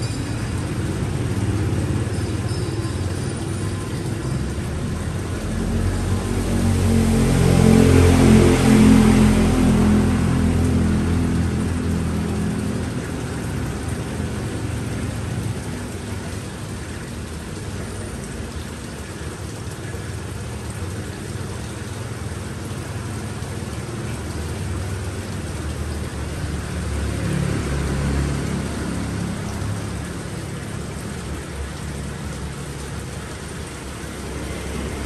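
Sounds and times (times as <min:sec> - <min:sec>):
falling water hissing: 0:00.0 - 0:35.0.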